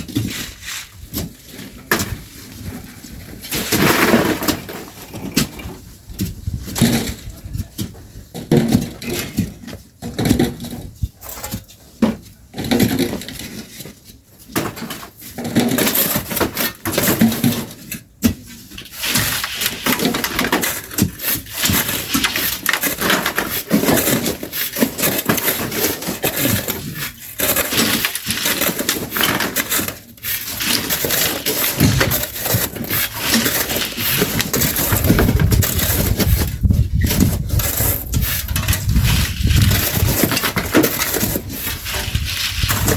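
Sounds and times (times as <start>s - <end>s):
shovels scraping sand and gravel: 0.0s - 7.6s, 14.7s - 42.9s.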